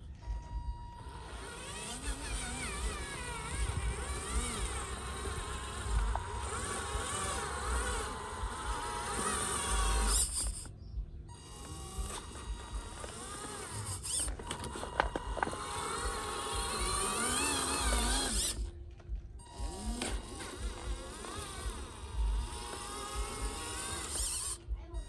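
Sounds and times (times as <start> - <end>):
small electric motors whining: 0.0 - 25.0.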